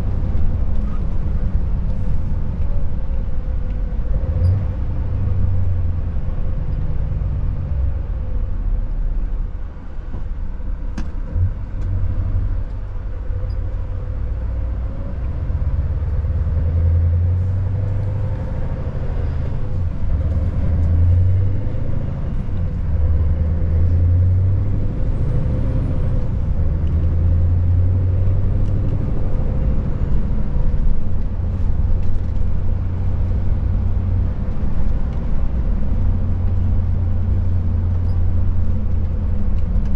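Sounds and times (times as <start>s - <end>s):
road noise: 0.0s - 39.9s
truck diesel engine drone: 0.0s - 39.9s.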